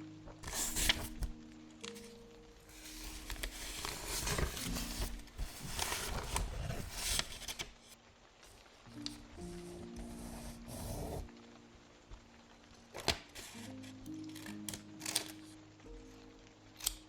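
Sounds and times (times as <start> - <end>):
soft background music: 0.0 - 17.0
paper rustling and crinkling: 0.3 - 11.3, 12.8 - 15.6.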